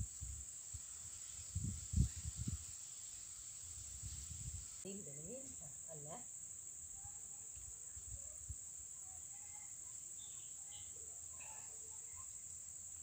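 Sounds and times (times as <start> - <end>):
high-pitched insect chorus drone: 0.0 - 13.0.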